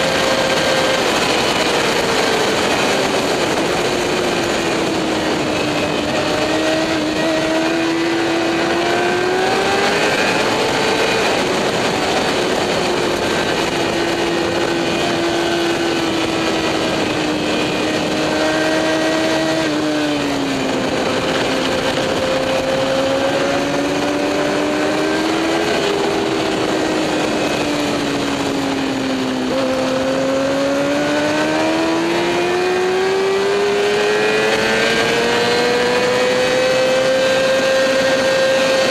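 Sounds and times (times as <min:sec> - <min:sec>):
heavy wind rush: 0:00.0 - 0:38.9
motorcycle engine at speed: 0:00.0 - 0:38.9.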